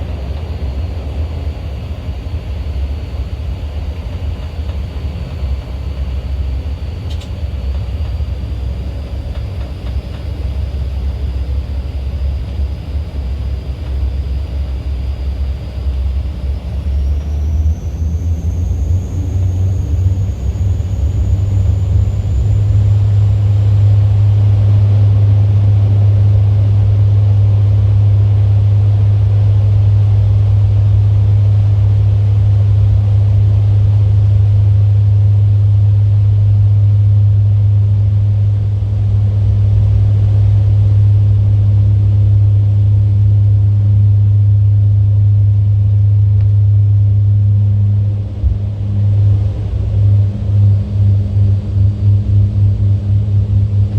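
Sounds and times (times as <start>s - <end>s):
faint high whine: 0.0s - 53.9s
jet engine drone inside cabin: 0.0s - 53.9s.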